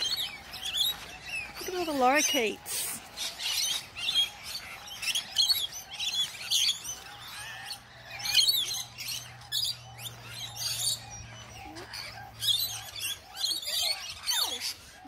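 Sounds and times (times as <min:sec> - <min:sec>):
birds screeching and chattering: 0:00.0 - 0:15.0.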